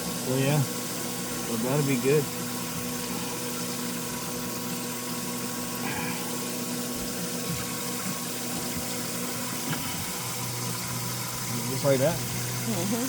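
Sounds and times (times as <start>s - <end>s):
aerator pump humming: 0.0s - 13.0s
water rushing through pump: 0.0s - 13.0s.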